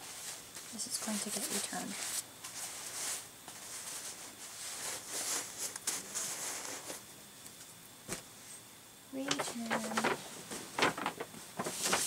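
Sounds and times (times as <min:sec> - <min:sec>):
rustling of doll clothes: 0:00.0 - 0:07.0, 0:09.2 - 0:12.0.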